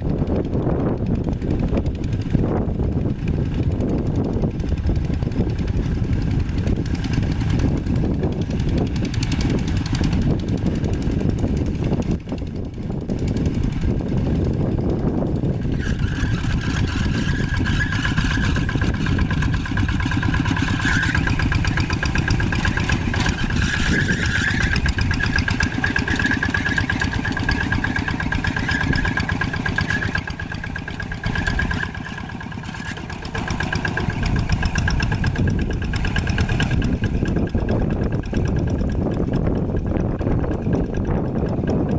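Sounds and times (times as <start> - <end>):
old tractor engine running: 0.0 - 41.9.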